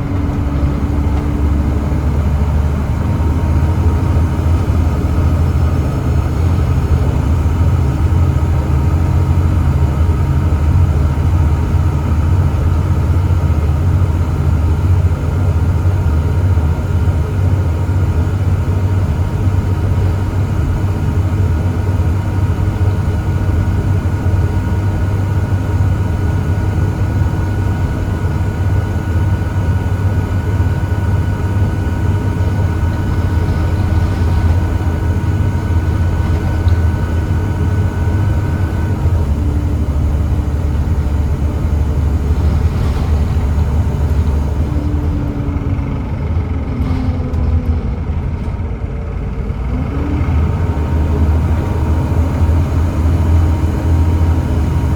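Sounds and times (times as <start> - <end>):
bus diesel engine drone: 0.0 - 54.9
thin engine whine: 0.0 - 54.9.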